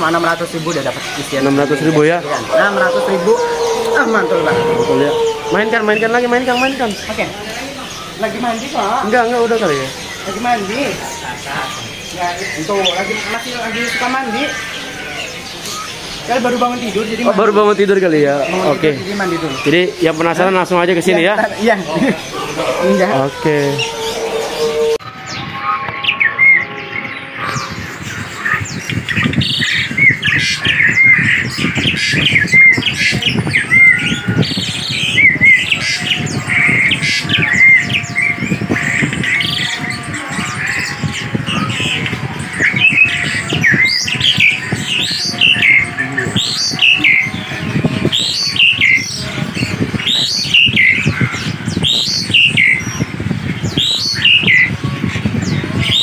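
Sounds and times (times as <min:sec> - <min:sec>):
songbirds whistling and chirping: 0:00.0 - 0:20.6, 0:21.6 - 0:56.0.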